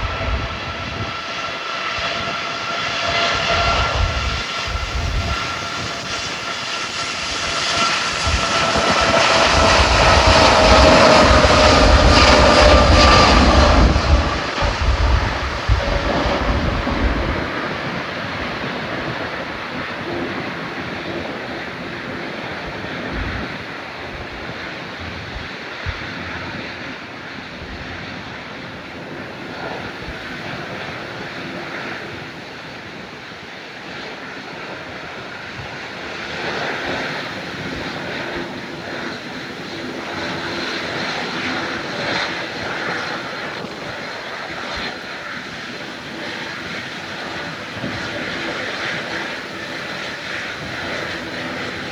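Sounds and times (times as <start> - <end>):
jet engines at takeoff: 0.0 - 51.9.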